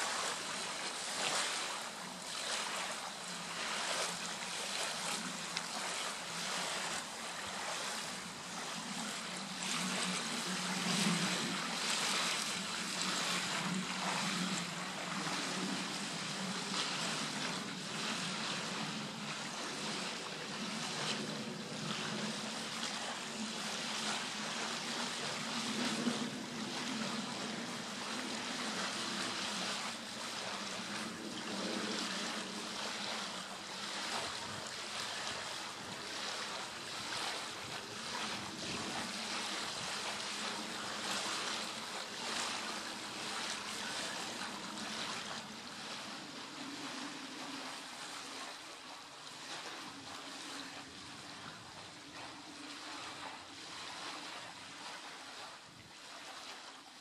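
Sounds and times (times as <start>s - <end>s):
rushing outdoor noise: 0.0s - 55.4s.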